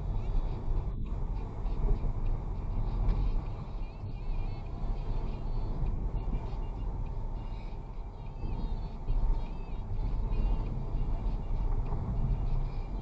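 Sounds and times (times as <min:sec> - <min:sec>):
vehicle engine and road rumble: 0:00.0 - 0:13.0
wind rushing over microphone: 0:00.0 - 0:13.0.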